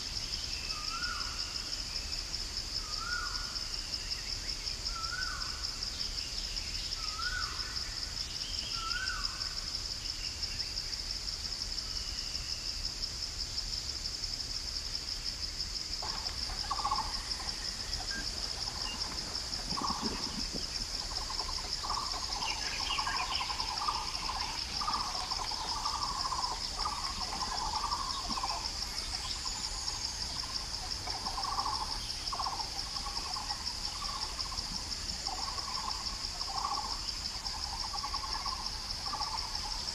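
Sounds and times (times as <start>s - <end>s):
insects pulsing buzz: 0.0s - 39.9s.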